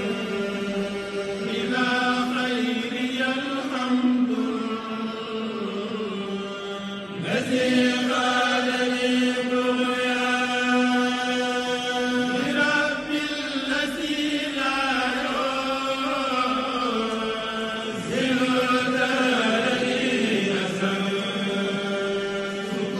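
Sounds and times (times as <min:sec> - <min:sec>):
man singing a chant: 0:00.0 - 0:22.9.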